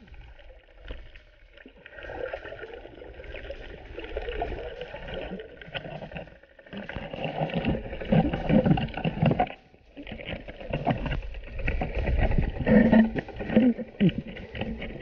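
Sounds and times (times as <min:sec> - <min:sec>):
muffled underwater water rushing: 0:00.0 - 0:15.0.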